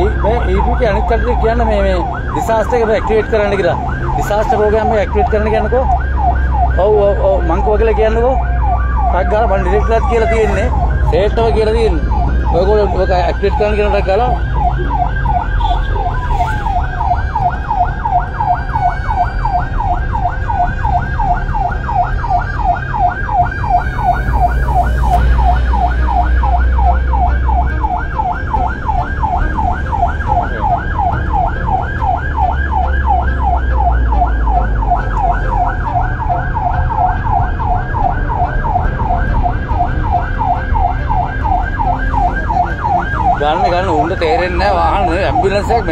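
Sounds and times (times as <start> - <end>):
ambulance siren yelping: 0.0 - 45.9
engine and road rumble: 0.0 - 45.9.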